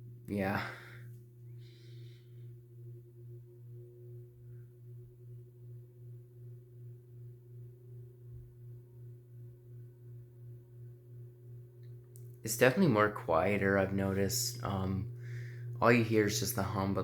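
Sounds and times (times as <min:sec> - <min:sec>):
ceiling fan motor humming: 0:00.0 - 0:17.0
faint higher tone: 0:02.4 - 0:17.0.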